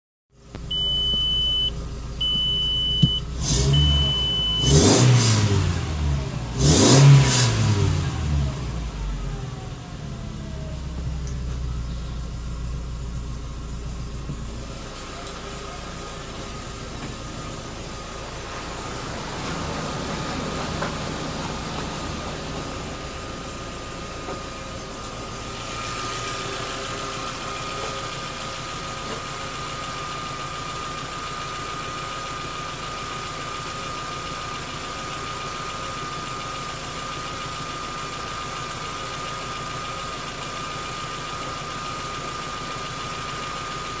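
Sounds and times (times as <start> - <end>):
car engine idling: 0.4 - 44.0.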